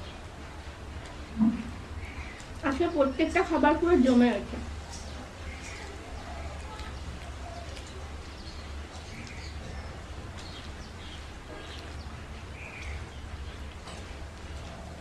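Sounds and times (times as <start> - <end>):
faint chewing clicks: 0.6 - 3.5, 4.8 - 15.0
small birds chirping: 1.4 - 15.0.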